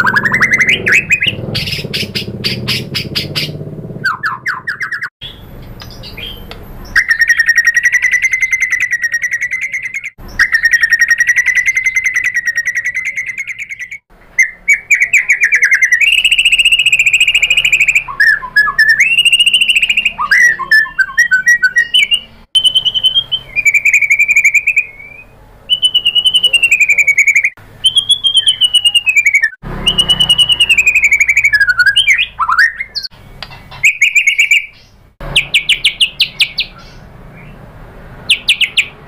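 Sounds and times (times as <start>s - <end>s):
bird singing rapid trills: 0.0s - 39.0s.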